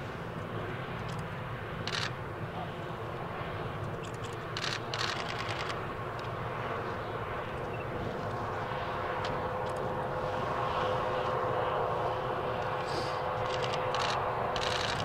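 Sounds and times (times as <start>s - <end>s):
faint jet engine whine: 0.0s - 15.0s
jet engines rumbling: 0.0s - 15.0s.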